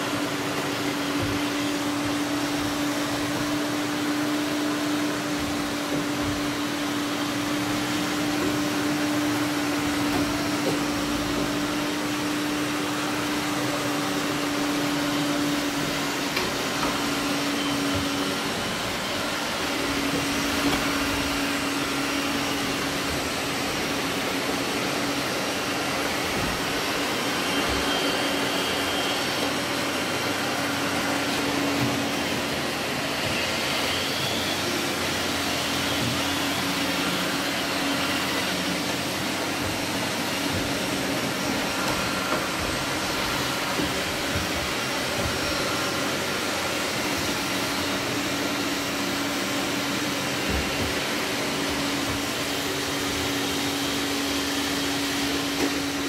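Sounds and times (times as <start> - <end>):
robot vacuums whirring: 0.0 - 56.0.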